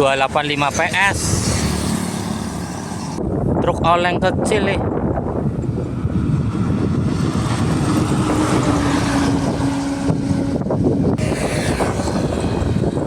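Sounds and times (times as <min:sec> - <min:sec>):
heavy trucks passing: 0:00.0 - 0:03.4, 0:05.0 - 0:13.0
passing vehicle hum: 0:00.0 - 0:03.6, 0:04.9 - 0:13.0
wind on microphone: 0:00.0 - 0:13.0.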